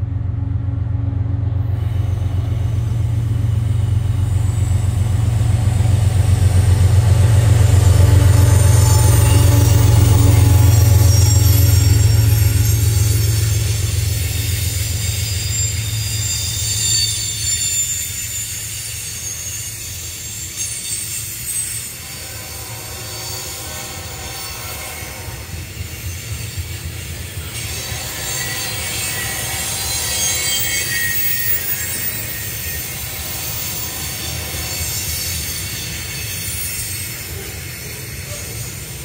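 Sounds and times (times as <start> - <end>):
freight train rumbling past: 0.0 - 39.0
high-pitched wheel squeal: 1.8 - 39.0.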